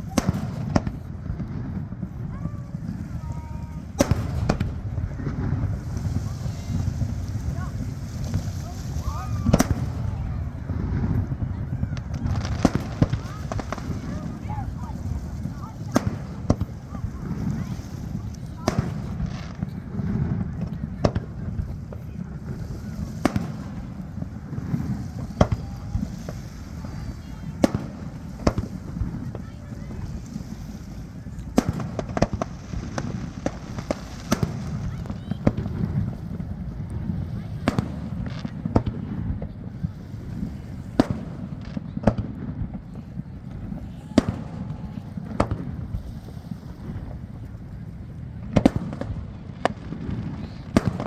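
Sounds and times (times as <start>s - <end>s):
steady low rumble: 0.0s - 50.2s
fireworks bangs with echo: 0.0s - 51.0s.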